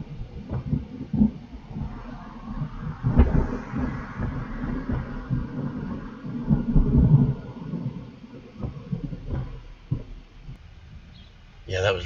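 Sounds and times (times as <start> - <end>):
short wind thumps: 0.0 - 11.6
wind buffeting microphone: 0.0 - 11.7.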